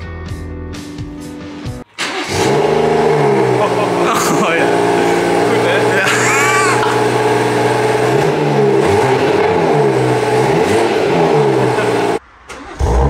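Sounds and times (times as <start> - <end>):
car engine idling and revving: 1.8 - 13.0.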